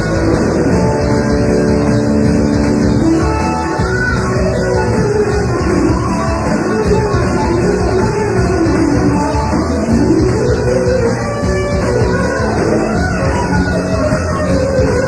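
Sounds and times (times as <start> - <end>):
electric guitar lead bending: 0.0 - 15.0
instrumental rock music: 0.0 - 15.0.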